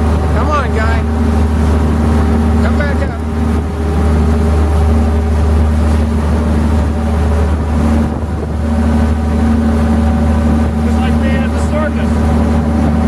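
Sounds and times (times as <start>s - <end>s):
boat engine humming: 0.0s - 13.0s
wake churning and splashing: 0.0s - 13.0s.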